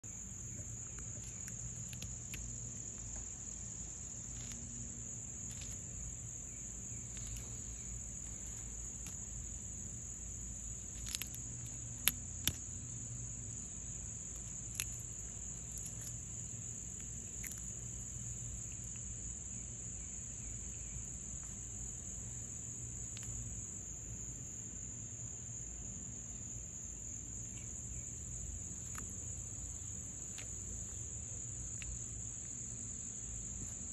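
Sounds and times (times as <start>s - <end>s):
high-pitched insect trilling: 0.1s - 24.6s, 26.2s - 33.9s.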